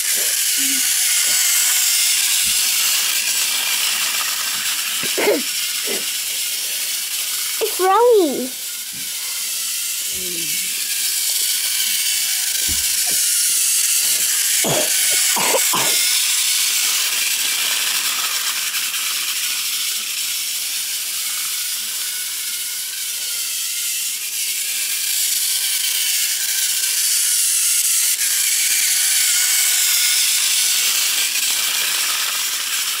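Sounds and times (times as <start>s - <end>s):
toy train motor whirring: 0.0s - 33.0s.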